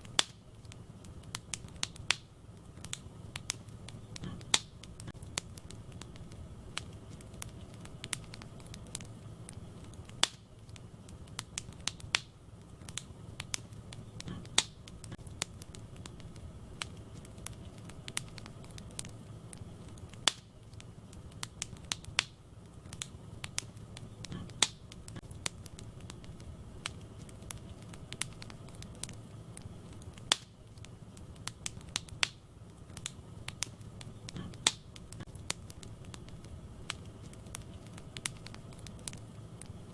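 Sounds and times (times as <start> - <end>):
crackles and pops of burning logs: 0.0 - 39.9
wood fire burning: 0.0 - 39.9.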